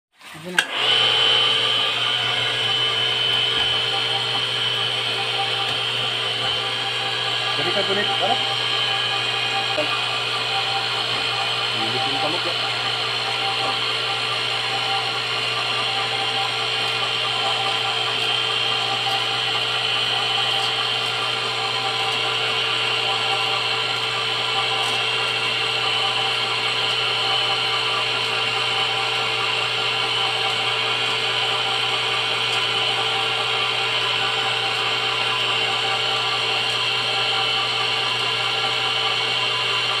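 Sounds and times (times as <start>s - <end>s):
machine motor droning with whine: 0.7s - 40.0s.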